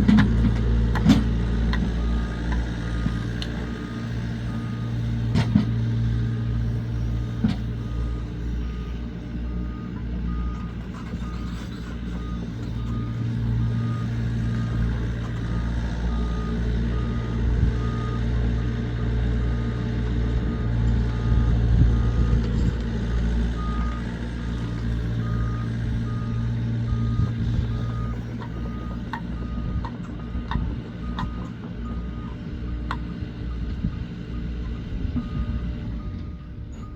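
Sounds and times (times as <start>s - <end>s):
diesel engine running: 0.0s - 36.9s
reversing alarm beeping: 0.4s - 18.3s, 19.5s - 36.9s.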